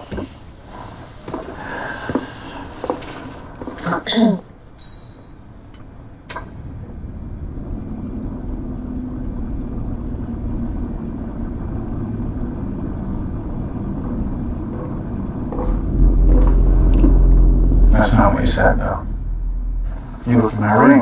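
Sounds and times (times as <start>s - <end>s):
low rumbling drone: 0.0s - 3.9s, 4.5s - 21.0s.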